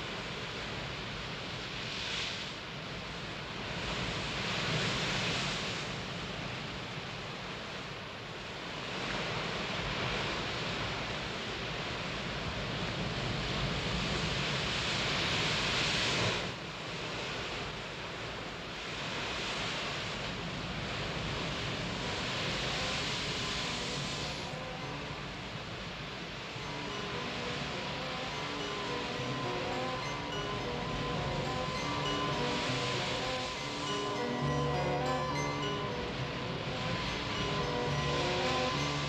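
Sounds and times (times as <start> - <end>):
surf washing onto beach: 0.0 - 7.8, 8.7 - 39.0.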